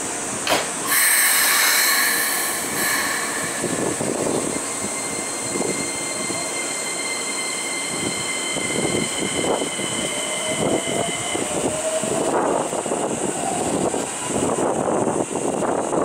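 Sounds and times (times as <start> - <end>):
electric train inverter whining: 0.0 - 16.0.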